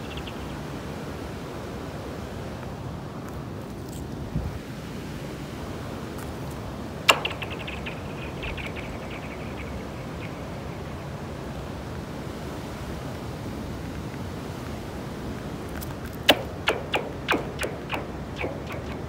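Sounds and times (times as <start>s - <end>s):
steady wind noise: 0.0s - 19.0s.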